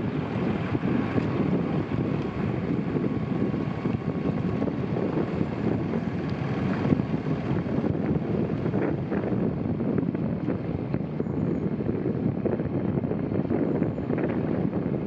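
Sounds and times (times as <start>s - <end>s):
water noise from moving boat: 0.0s - 15.0s
wind on microphone: 0.0s - 15.0s.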